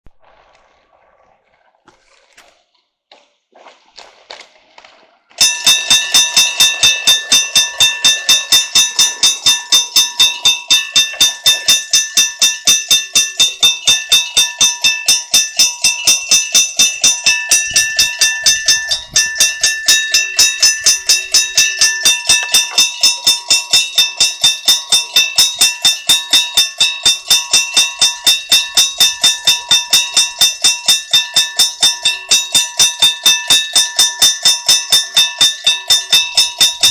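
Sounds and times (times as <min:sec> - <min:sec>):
level-crossing bell ringing rapidly: 0:05.4 - 0:36.9.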